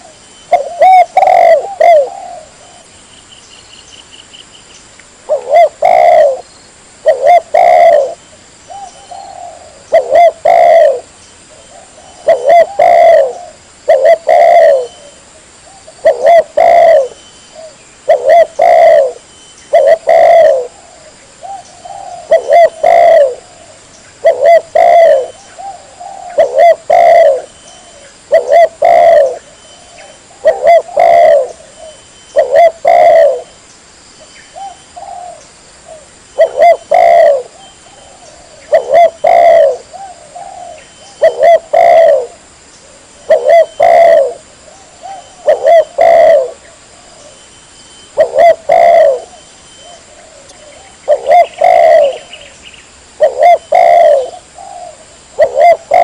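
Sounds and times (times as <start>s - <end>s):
dove cooing: 0.0s - 2.9s, 5.3s - 6.4s, 7.0s - 33.6s, 34.5s - 52.6s, 53.2s - 56.0s.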